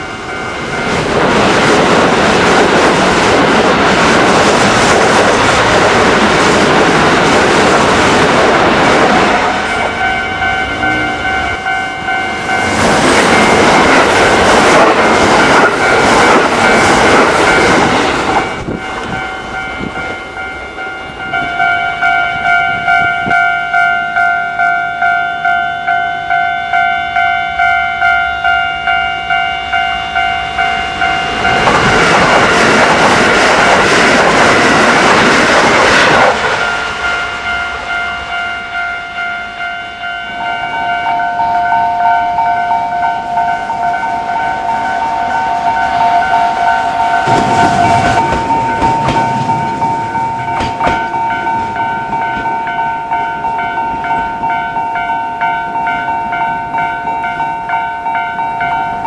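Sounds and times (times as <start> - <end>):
level crossing bell ringing: 0.0 - 1.6, 8.8 - 32.8, 36.6 - 59.0
train passing: 0.0 - 59.0.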